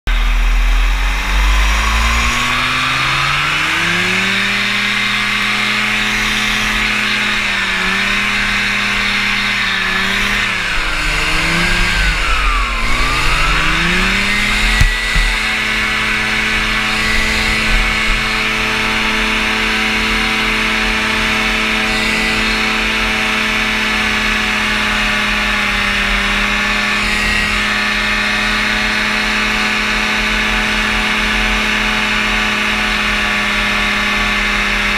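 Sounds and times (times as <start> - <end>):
aircraft engine revving: 0.1 - 34.9.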